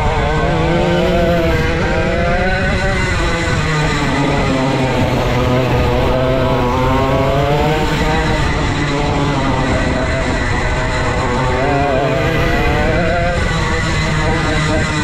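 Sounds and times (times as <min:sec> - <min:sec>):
go-kart engine running hard: 0:00.0 - 0:15.0.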